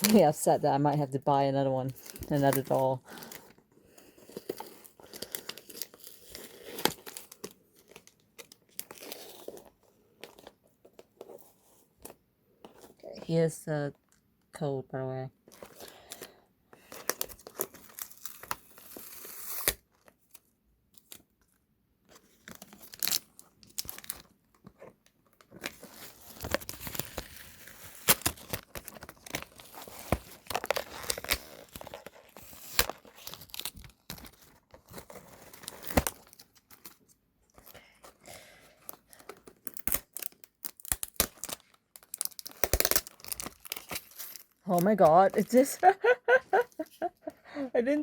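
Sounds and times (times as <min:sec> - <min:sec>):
packaging tearing and rustling: 0:01.9 - 0:12.2, 0:15.5 - 0:21.2, 0:22.2 - 0:46.0.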